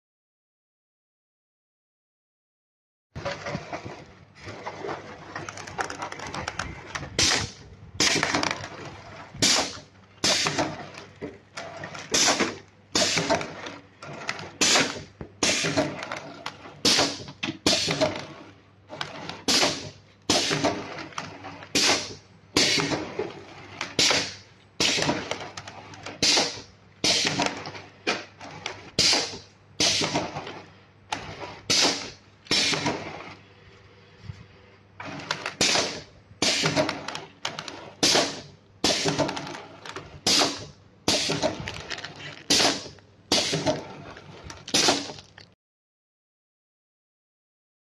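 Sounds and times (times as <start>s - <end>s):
packaging machine strokes: 3.2s - 33.4s, 35.0s - 45.5s.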